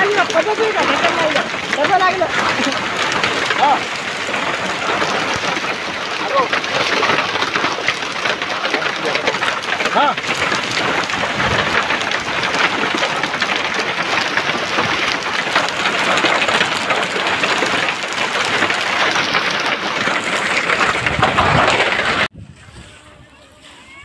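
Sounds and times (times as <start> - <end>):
hail and heavy rain pelting ground: 0.0 - 22.3.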